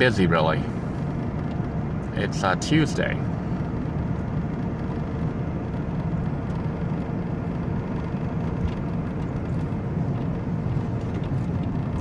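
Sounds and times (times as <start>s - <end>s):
van road and engine noise: 0.0s - 12.0s.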